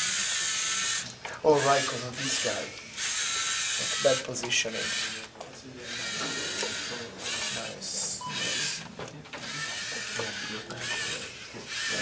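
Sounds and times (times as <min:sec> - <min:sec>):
robot servo motors whirring: 0:00.0 - 0:08.8, 0:09.4 - 0:12.0.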